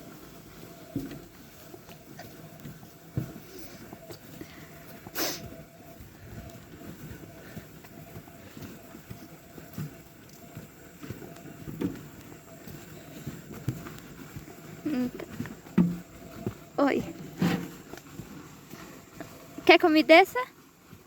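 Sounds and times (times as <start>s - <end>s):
cart rolling over rough ground: 0.0s - 21.0s.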